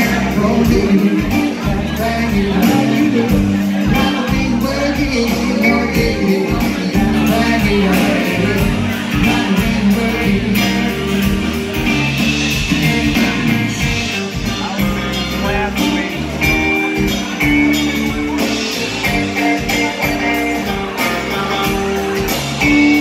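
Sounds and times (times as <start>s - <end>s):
drum kit beat: 0.0s - 23.0s
electric and acoustic guitars: 0.0s - 23.0s.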